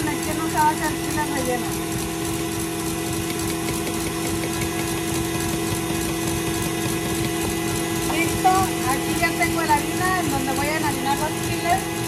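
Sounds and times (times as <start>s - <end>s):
electric mixer running: 0.0s - 12.0s.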